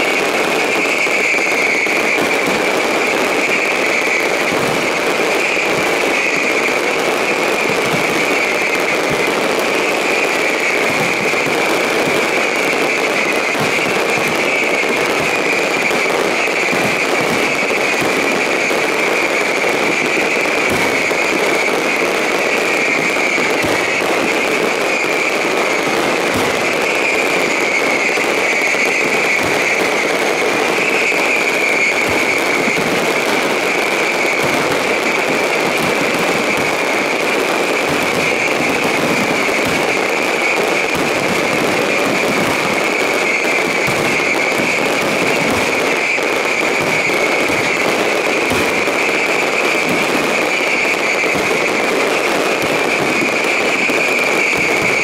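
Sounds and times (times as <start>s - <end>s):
fireworks launching and bursting: 0.0s - 55.0s.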